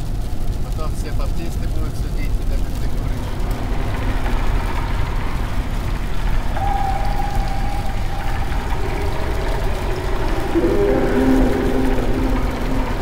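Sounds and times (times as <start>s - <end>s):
faint steady whine: 0.0s - 13.0s
car road and engine rumble: 2.1s - 13.0s.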